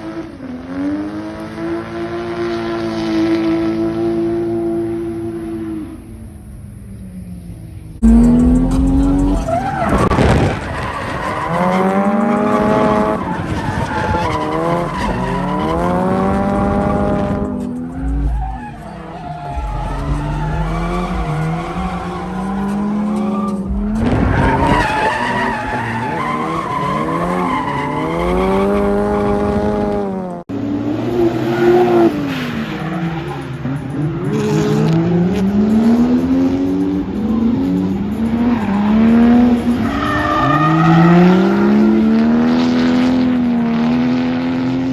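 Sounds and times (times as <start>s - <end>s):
car engine revving: 0.0s - 44.9s
tyres skidding: 0.0s - 44.9s.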